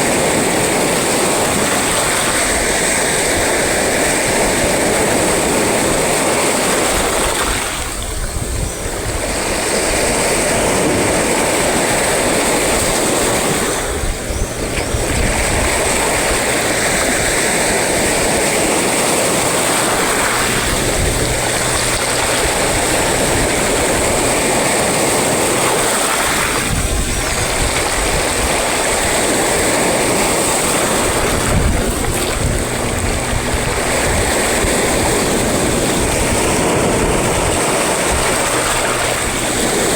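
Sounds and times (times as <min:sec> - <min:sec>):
sea surf breaking: 0:00.0 - 0:39.9
wind buffeting microphone: 0:00.0 - 0:39.9.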